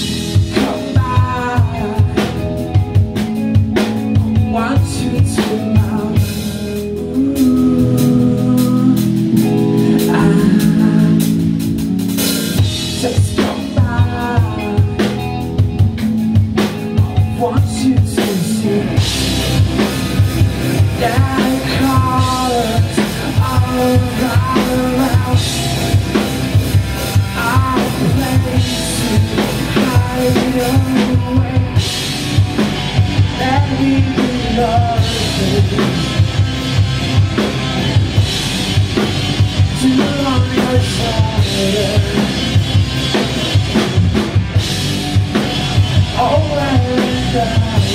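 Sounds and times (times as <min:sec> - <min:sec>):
drum kit steady beat: 0:00.0 - 0:47.9
live band playing: 0:00.0 - 0:47.9.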